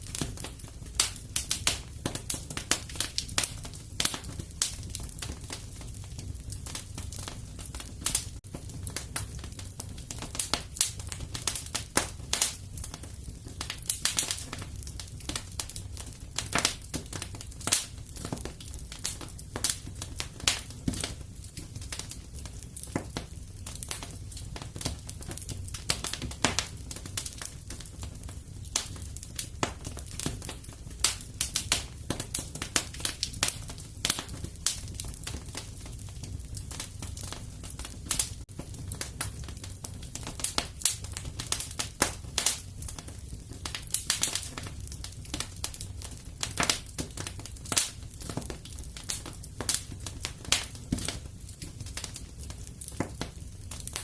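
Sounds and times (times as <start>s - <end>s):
fire rumbling: 0.0s - 54.0s
logs crackling and popping: 0.0s - 54.0s.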